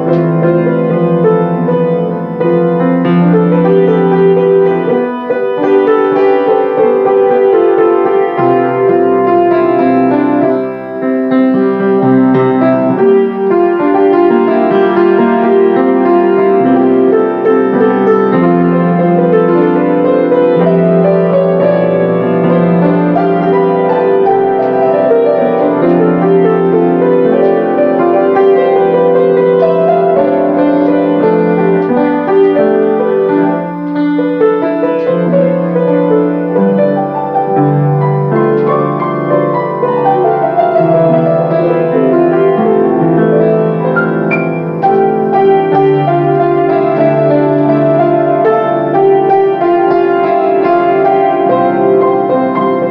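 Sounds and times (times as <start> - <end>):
solo grand piano: 0.0 - 52.9.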